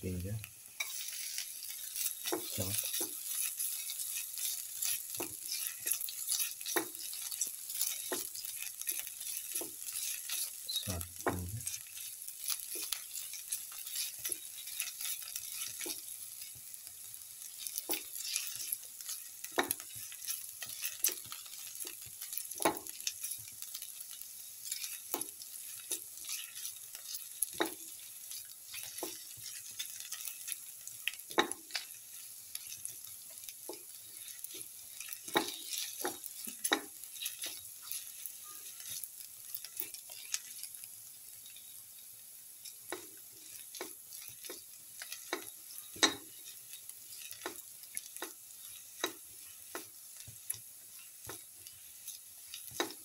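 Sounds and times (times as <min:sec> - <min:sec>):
shallots sizzling in oil: 0:00.0 - 0:53.0
spatula scraping and tapping pan: 0:00.8 - 0:53.0.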